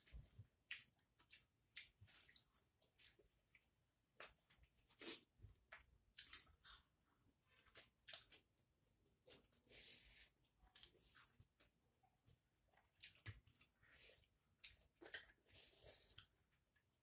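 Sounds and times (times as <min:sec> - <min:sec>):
chewing and mouth smacks: 0:00.1 - 0:06.9, 0:07.5 - 0:09.7, 0:12.0 - 0:16.8.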